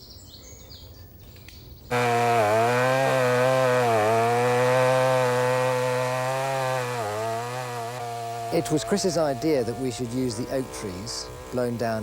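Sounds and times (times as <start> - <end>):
chainsaw cutting timber: 1.9 - 12.0.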